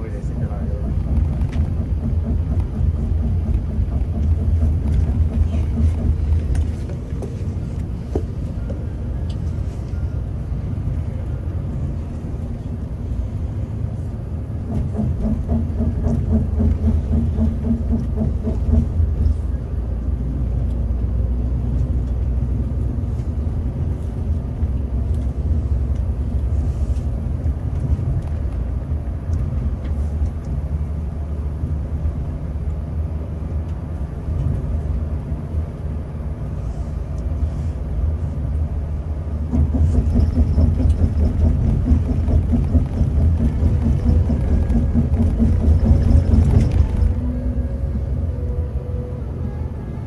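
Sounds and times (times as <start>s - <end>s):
coach diesel engine rumbling: 0.0s - 50.0s.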